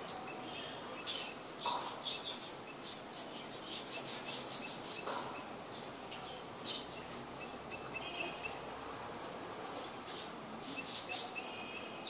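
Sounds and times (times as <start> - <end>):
birds chirping: 0.0 - 8.7, 9.6 - 12.0
steady background hiss: 0.0 - 12.0.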